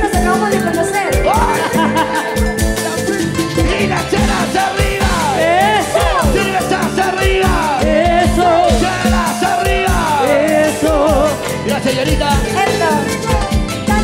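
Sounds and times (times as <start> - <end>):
bass: 0.0 - 14.0
drum beat: 0.0 - 14.0
gliding lead melody: 0.0 - 14.0.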